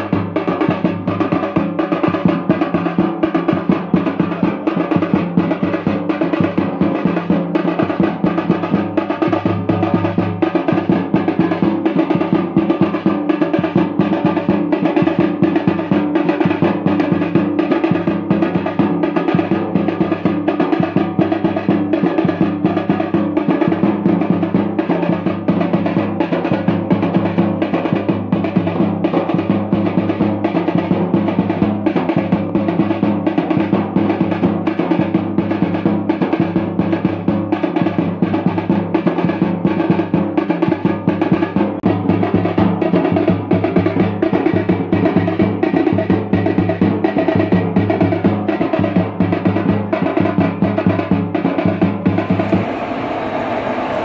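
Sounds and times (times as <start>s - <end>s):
music with fast drumming: 0.0s - 52.6s.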